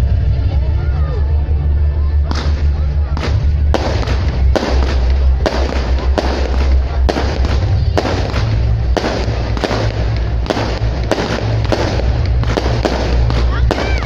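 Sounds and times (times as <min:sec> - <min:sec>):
low rumble: 0:00.0 - 0:14.0
fireworks bangs: 0:02.3 - 0:14.0.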